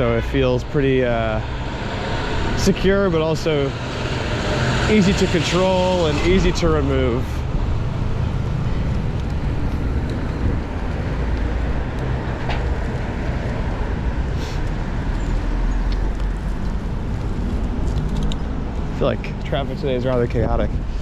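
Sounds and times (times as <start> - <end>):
heavier vehicle passing: 0.0 - 20.1
rumble of passing cars: 0.0 - 21.0.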